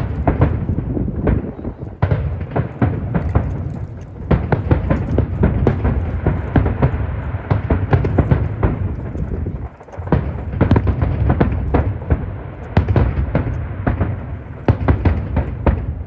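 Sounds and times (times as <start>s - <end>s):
fireworks bangs and booms: 0.0s - 16.0s.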